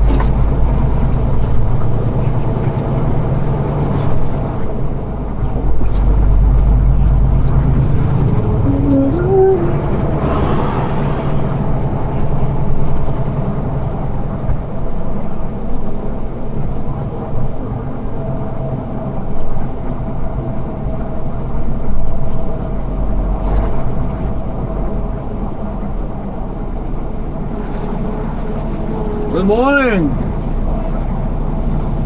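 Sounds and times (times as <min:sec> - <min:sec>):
road noise: 0:00.0 - 0:32.0
truck engine rumbling: 0:00.0 - 0:32.0.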